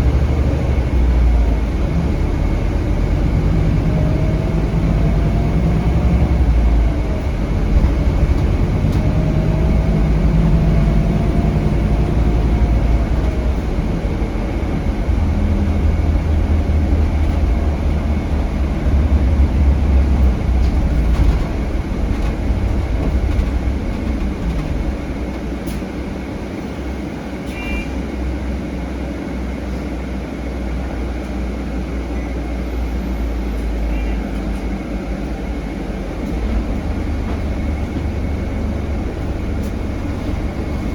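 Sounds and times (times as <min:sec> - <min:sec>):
bus engine rumbling: 0:00.0 - 0:40.9
engine whine: 0:00.0 - 0:40.9.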